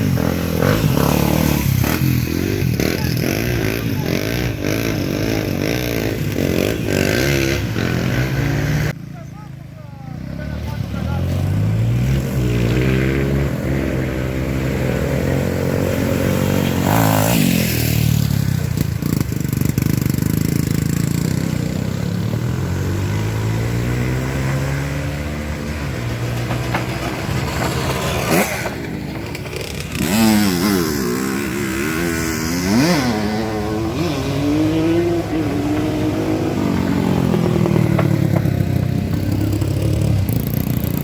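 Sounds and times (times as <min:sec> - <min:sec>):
motorcycle engines revving: 0:00.0 - 0:41.0.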